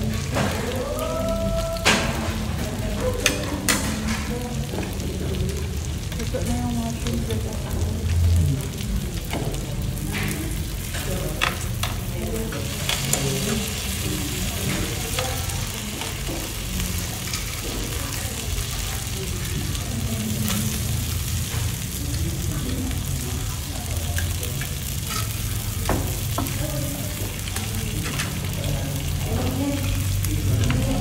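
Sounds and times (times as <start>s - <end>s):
meat sizzling on grill plate: 0.0s - 31.0s.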